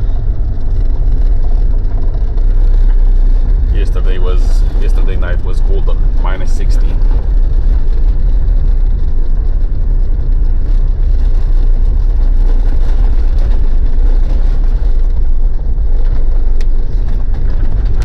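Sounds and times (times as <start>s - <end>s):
diesel engine and road drone: 0.0s - 18.0s.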